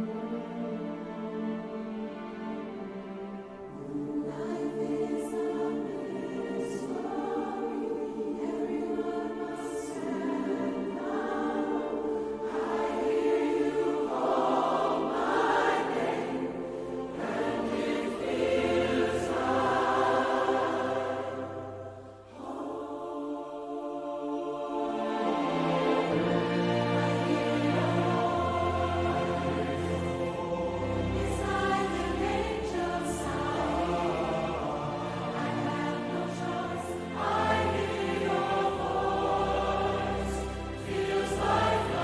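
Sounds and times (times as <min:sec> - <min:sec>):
choral singing: 0:00.0 - 0:42.0.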